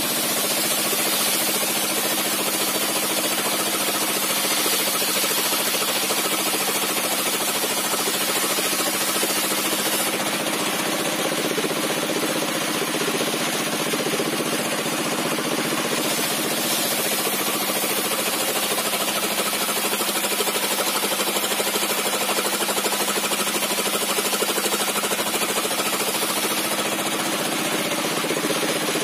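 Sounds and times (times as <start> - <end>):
circular saw cutting timber: 0.0 - 29.0.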